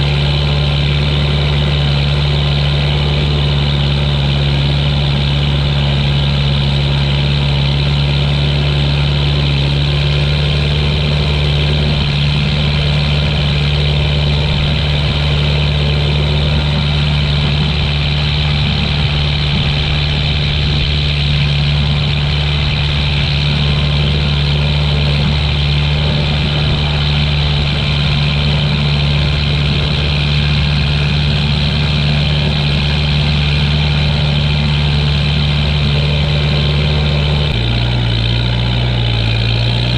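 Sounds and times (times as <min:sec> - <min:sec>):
tractor engine drone: 0:00.0 - 0:39.9.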